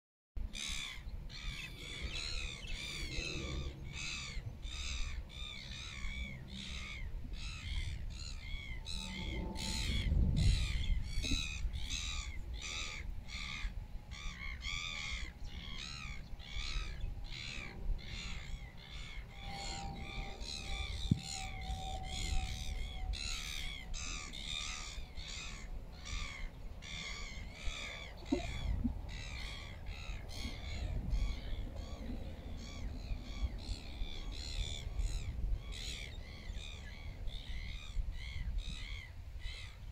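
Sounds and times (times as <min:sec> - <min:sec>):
wind rumble on microphone: 0:00.4 - 0:39.9.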